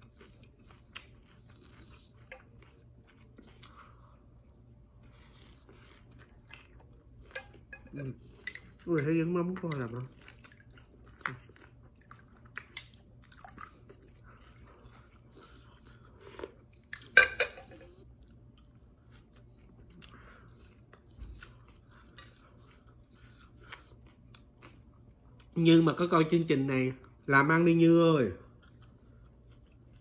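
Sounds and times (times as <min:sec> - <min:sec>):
chewing crispy fritter: 0:00.0 - 0:08.9, 0:09.5 - 0:17.1, 0:18.0 - 0:25.6, 0:28.4 - 0:30.0.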